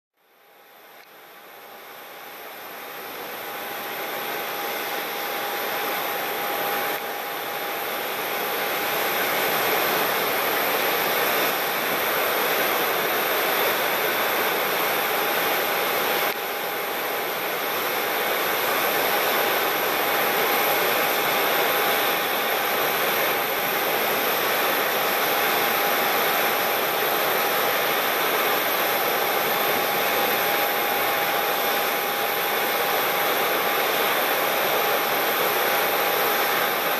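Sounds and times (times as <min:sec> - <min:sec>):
turboprop engines rushing and whining: 0:00.5 - 0:36.9.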